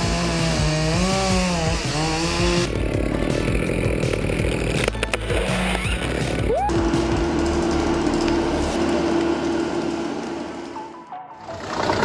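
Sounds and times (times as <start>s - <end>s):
rough grinding sound: 0.0s - 10.7s
small engine revving: 0.0s - 10.8s.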